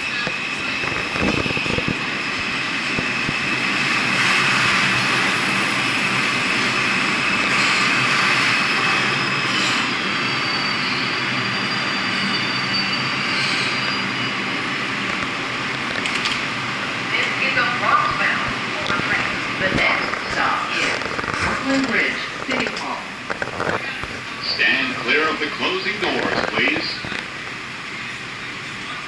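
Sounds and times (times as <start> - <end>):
subway train pulling in: 0.0 - 29.0.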